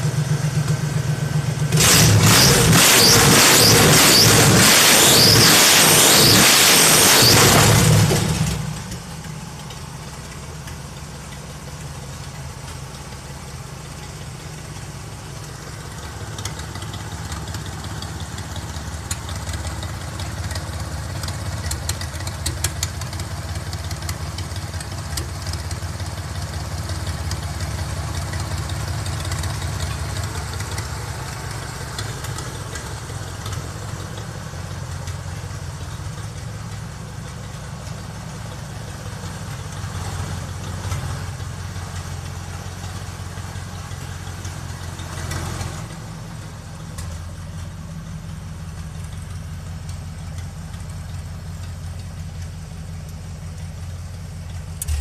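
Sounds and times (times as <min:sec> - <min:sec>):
truck engine idling: 0:00.0 - 0:02.6, 0:07.0 - 0:55.0.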